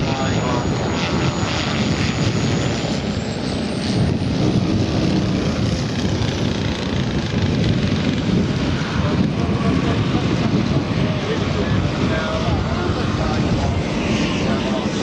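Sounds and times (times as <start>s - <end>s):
model aircraft propeller engine: 0.0s - 15.0s.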